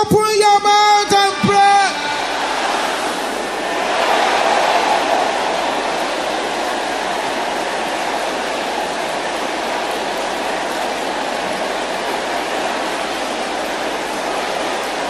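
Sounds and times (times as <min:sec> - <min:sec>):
crowd praying aloud: 0:00.0 - 0:15.0.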